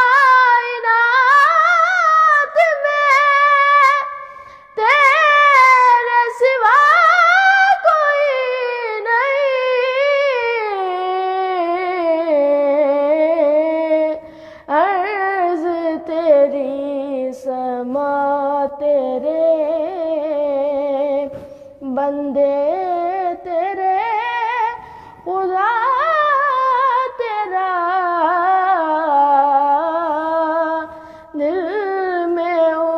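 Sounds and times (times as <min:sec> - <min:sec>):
boy singing solo: 0:04.8 - 0:32.9.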